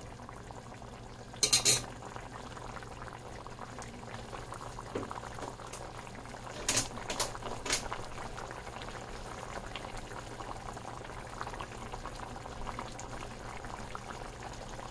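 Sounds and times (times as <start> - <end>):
curry bubbling in a pot: 0.0 - 14.9.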